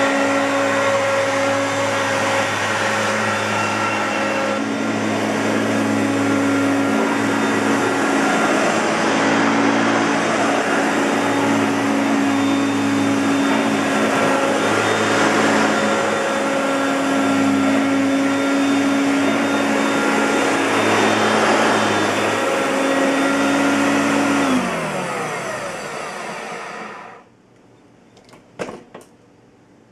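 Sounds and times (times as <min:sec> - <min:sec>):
vacuum cleaner motor humming: 0:00.0 - 0:27.3.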